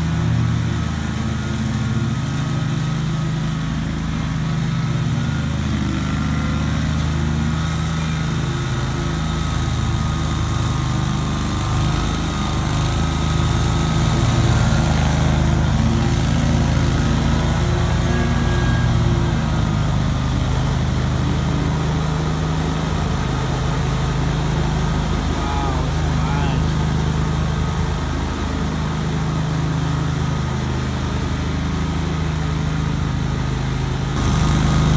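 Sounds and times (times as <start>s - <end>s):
mower engine under load: 0.0s - 34.9s.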